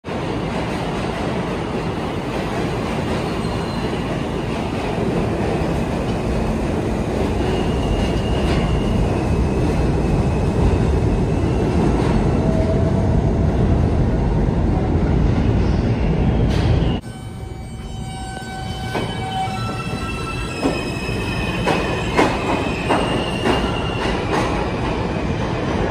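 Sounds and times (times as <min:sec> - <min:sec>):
subway train wheels rumbling on rail: 0:00.0 - 0:25.9.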